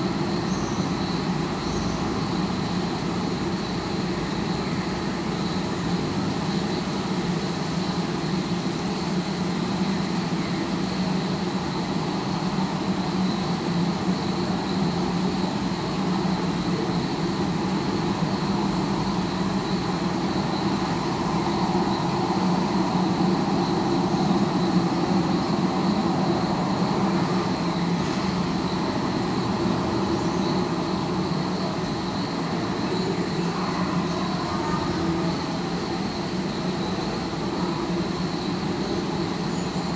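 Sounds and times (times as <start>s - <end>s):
distant city traffic hum: 0.0s - 39.9s.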